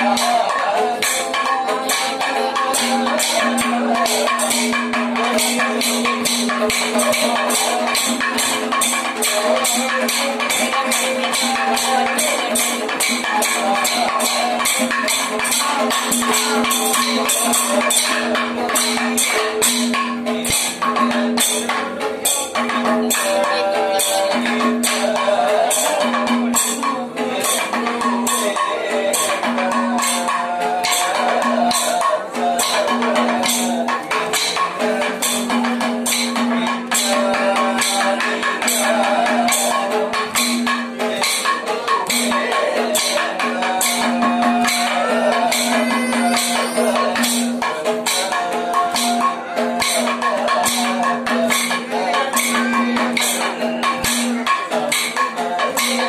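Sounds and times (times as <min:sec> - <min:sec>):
hand cymbals striking: 0:00.0 - 0:56.0
person singing wavering melody: 0:00.0 - 0:56.0.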